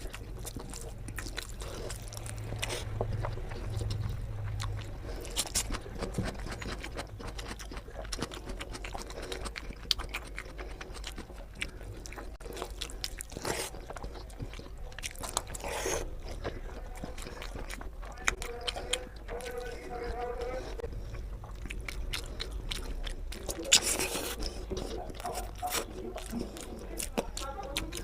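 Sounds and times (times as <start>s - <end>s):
chewing and wet mouth sounds: 0.0s - 28.0s.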